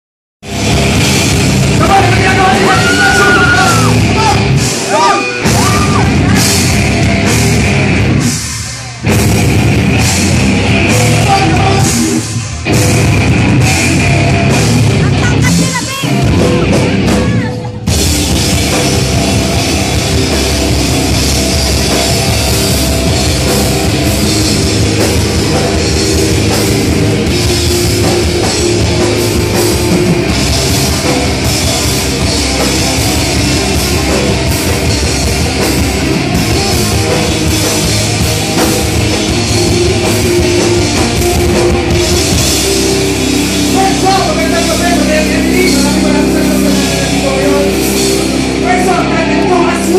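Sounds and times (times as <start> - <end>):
heavy metal band playing: 0.4 - 49.9.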